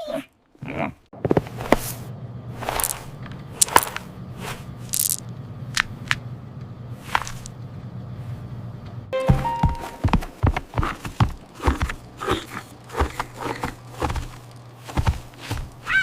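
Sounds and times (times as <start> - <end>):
low steady hum: 1.2 - 16.0.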